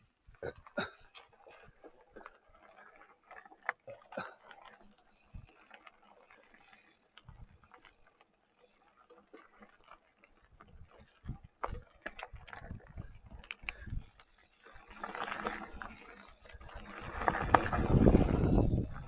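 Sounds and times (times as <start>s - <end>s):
bicycle freewheel ticking: 0.0s - 19.0s
bike clicks and thumps: 0.0s - 19.0s.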